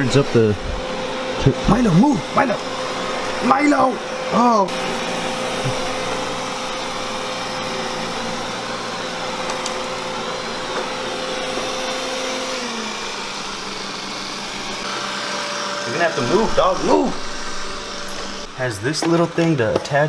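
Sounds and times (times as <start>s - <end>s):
robot vacuum whirring whine: 0.0s - 19.8s.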